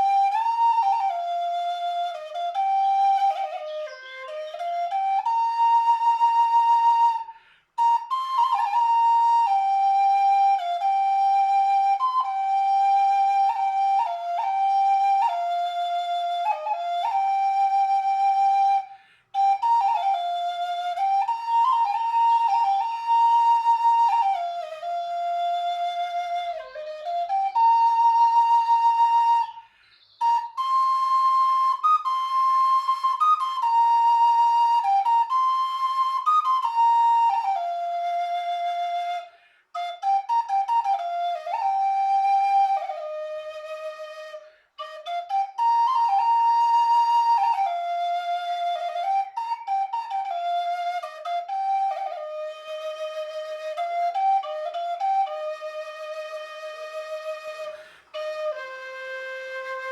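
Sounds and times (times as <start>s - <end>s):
solo flute melody: 0.0s - 59.9s.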